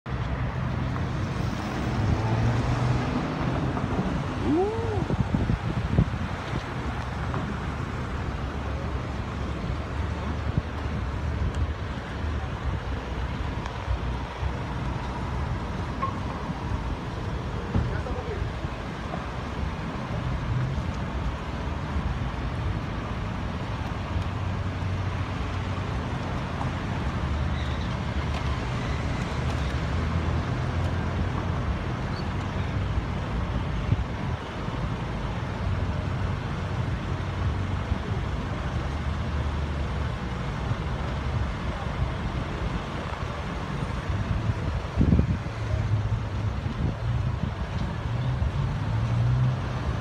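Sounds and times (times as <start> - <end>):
car engines idling and running: 0.1 - 50.0.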